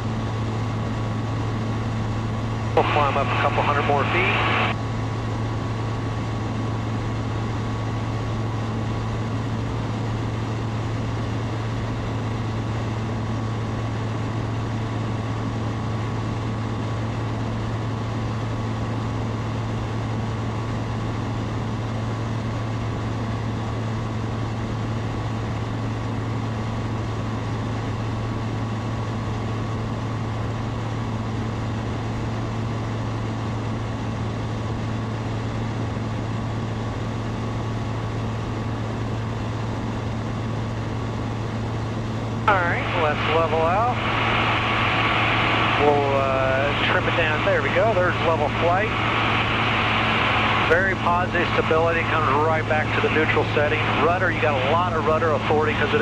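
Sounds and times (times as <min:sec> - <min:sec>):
airplane engine droning: 0:00.0 - 0:56.0
propeller whine: 0:00.0 - 0:56.0.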